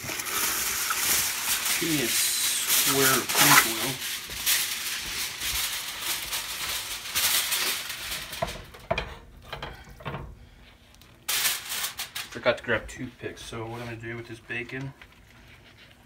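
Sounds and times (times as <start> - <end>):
aluminium foil crinkling: 0.0 - 8.8, 10.9 - 16.0.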